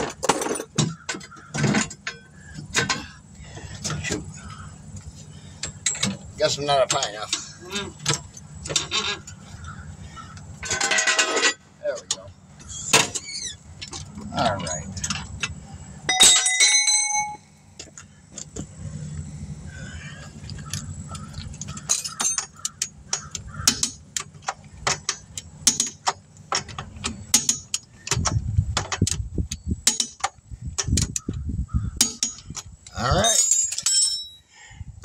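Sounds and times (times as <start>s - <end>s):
metal tools clanking: 0.0s - 18.8s, 20.4s - 31.4s, 32.0s - 34.5s
low steady hum: 0.0s - 35.0s.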